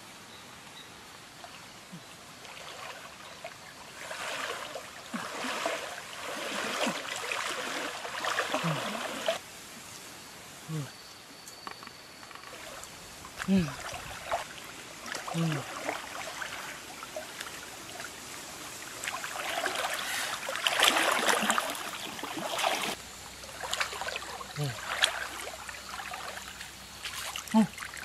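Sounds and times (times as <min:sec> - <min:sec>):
river water splashing: 0:01.2 - 0:09.4, 0:12.3 - 0:28.0.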